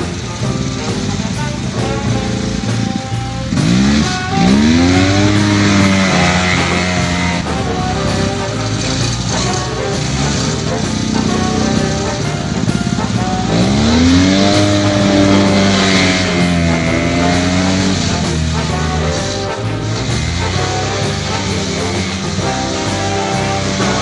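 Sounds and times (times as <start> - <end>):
background music: 0.0 - 24.0
snowmobile engine revving: 0.0 - 24.0.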